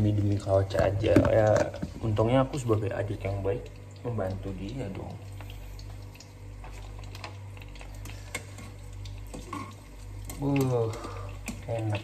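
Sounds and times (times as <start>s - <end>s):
chicken frying in hot oil: 0.0s - 12.0s
oil popping: 0.7s - 12.0s.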